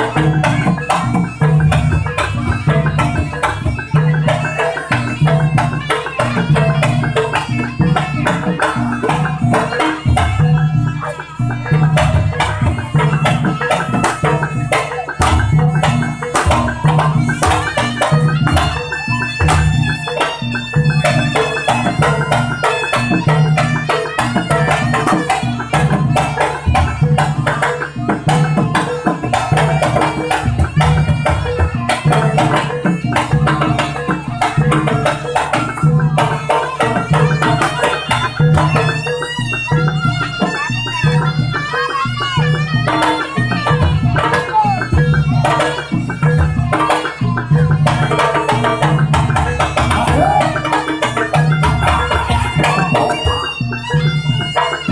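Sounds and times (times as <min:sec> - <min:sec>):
hand drums beating fast rhythm: 0:00.0 - 0:54.9
wavering high melody: 0:00.0 - 0:54.9.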